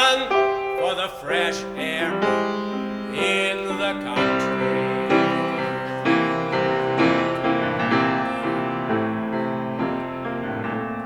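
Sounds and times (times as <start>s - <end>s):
solo piano chords: 0.0s - 11.0s.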